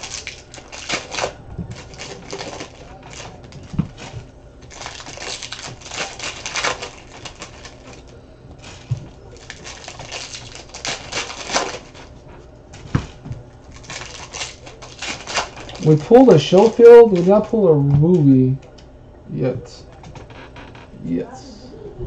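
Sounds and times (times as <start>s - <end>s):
plastic wrappers crinkling: 0.0s - 18.7s.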